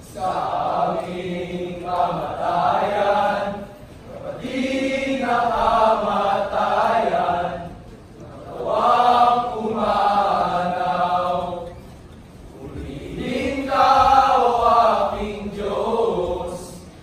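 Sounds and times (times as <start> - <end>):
young men chanting in unison: 0.1 - 7.7, 8.4 - 11.7, 12.6 - 16.9.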